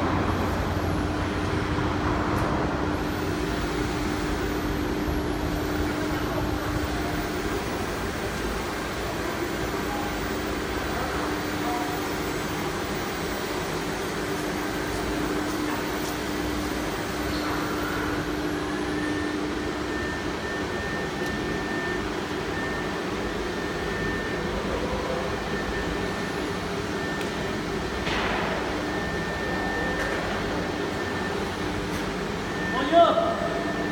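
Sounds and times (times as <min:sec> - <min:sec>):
cnc router machine noise: 0:00.0 - 0:28.1
spindle whine: 0:00.0 - 0:33.9
high machine tone: 0:02.9 - 0:33.9.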